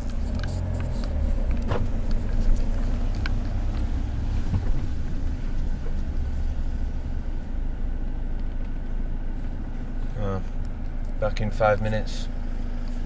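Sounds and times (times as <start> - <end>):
van engine rumbling: 0.0 - 13.0.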